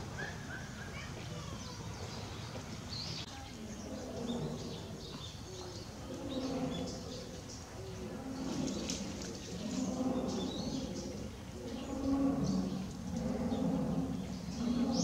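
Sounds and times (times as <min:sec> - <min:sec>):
outdoor background noise: 0:00.0 - 0:15.0
small birds chirping: 0:00.2 - 0:15.0.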